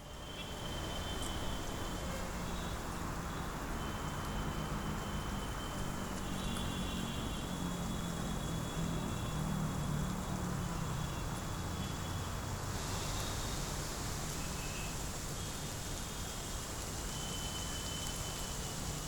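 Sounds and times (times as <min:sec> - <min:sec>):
even hiss: 0:00.0 - 0:19.0.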